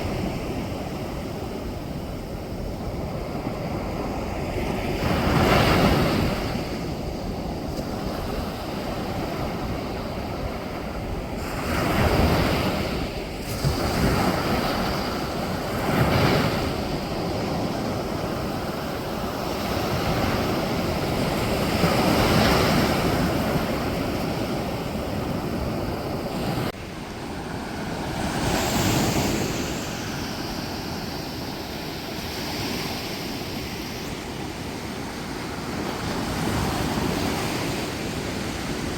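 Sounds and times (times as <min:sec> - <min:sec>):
sea waves breaking on a beach: 0:00.0 - 0:38.9.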